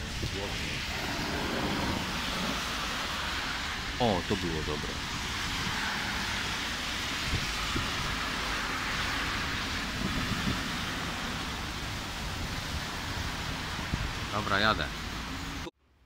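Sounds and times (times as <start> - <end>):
wind rumble on microphone: 0.0 - 15.6
cars driving through water: 0.0 - 15.7
heavy rain pouring: 0.0 - 15.7.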